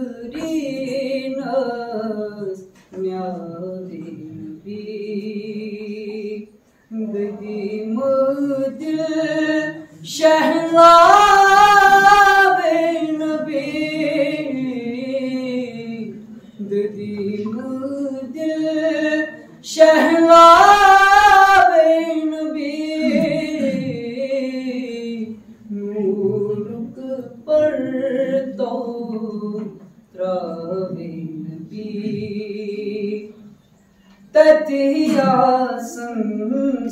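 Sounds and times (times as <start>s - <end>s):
man singing unaccompanied: 0.0s - 33.6s, 34.3s - 36.9s.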